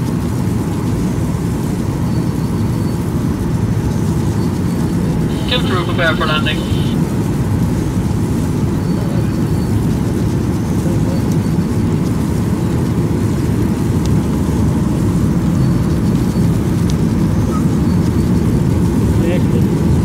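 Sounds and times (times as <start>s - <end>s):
airliner cabin engine rumble: 0.2s - 20.0s.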